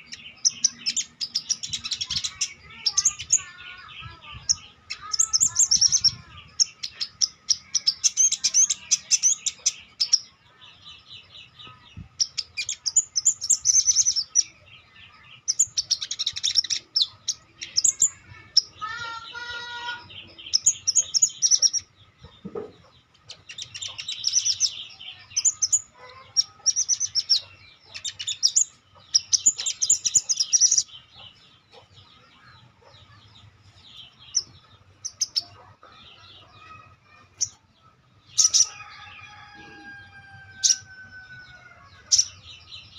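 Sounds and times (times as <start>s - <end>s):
songbird chattering song: 0.0s - 42.9s.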